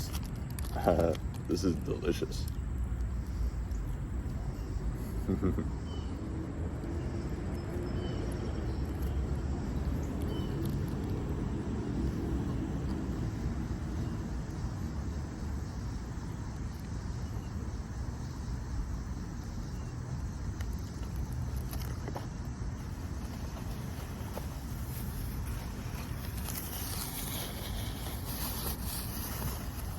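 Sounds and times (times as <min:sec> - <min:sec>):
road traffic rumble: 0:00.0 - 0:29.9.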